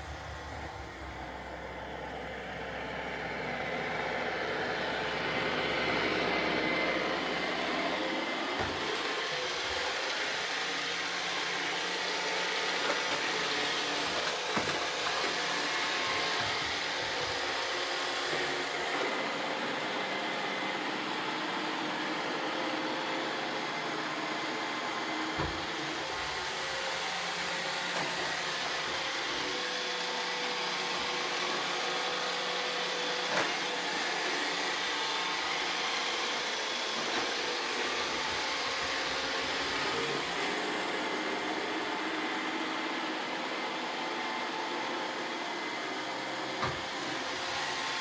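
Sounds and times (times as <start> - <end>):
robot vacuums whirring: 0.0 - 48.0.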